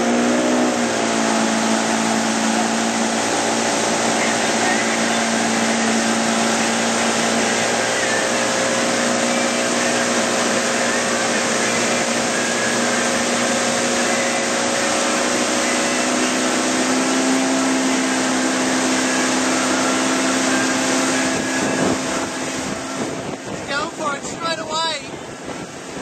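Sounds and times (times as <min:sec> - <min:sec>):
motorboat engine running: 0:00.0 - 0:26.0
rush of wind and water: 0:00.0 - 0:26.0.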